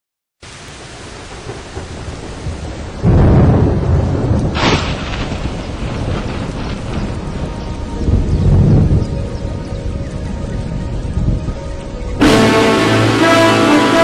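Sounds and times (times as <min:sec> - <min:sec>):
rain hissing: 0:00.4 - 0:14.0
thunder clap rumbling: 0:00.8 - 0:14.0.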